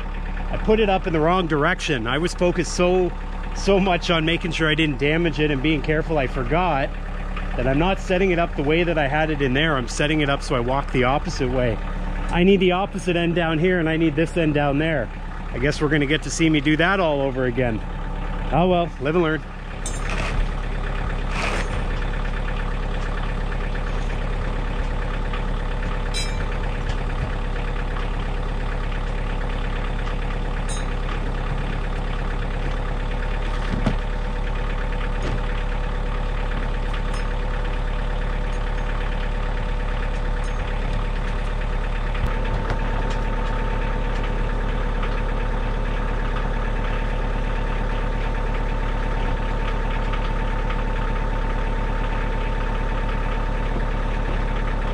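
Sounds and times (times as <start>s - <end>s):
tractor engine idling: 0.0s - 54.9s.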